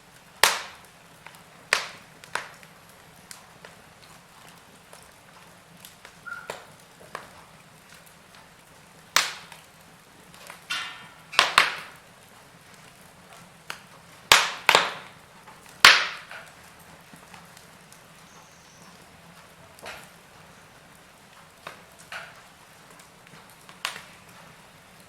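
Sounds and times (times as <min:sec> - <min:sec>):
wood fire crackling: 0:00.0 - 0:25.0
sharp pops and snaps: 0:00.1 - 0:25.0.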